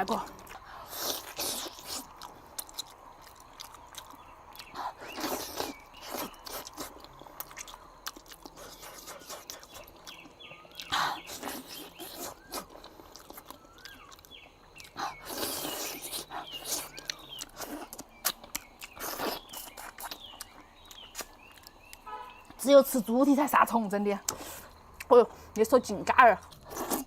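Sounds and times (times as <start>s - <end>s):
person chewing and gnawing: 0.2s - 22.1s, 26.4s - 27.0s.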